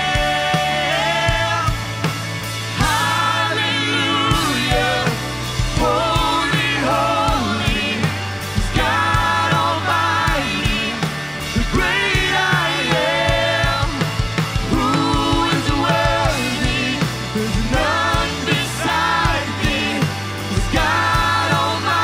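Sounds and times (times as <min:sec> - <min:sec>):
bass notes: 0:00.0 - 0:22.0
drum kit: 0:00.0 - 0:22.0
keyboard: 0:00.0 - 0:22.0
people singing: 0:00.0 - 0:22.0.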